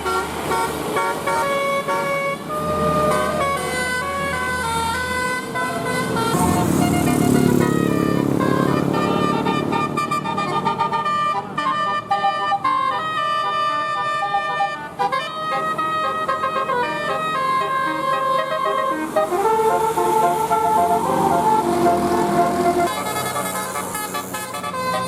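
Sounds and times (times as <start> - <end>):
bus air horns playing a tune: 0.0 - 25.0.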